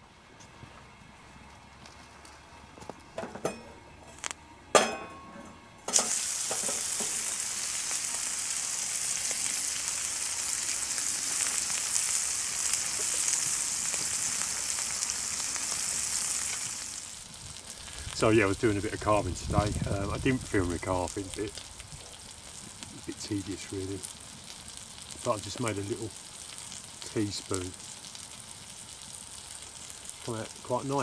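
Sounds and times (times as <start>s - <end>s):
steak sizzling in a frying pan: 5.9s - 31.0s.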